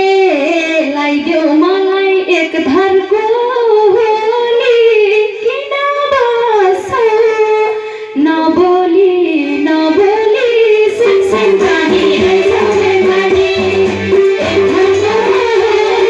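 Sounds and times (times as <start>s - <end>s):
woman singing folk melody: 0.0s - 16.0s.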